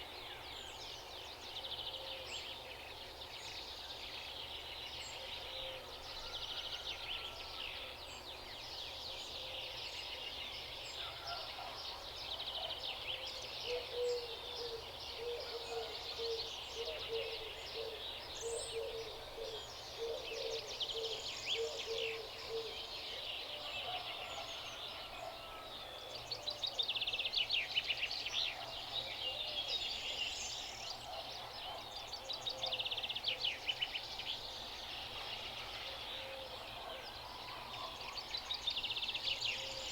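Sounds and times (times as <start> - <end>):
wild birds chirping and trilling: 0.0 - 39.9.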